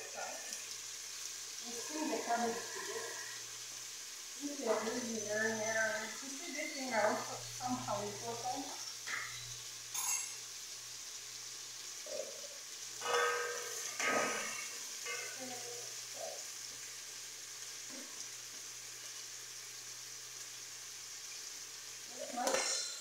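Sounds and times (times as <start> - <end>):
food sizzling in a pot: 0.0 - 23.0.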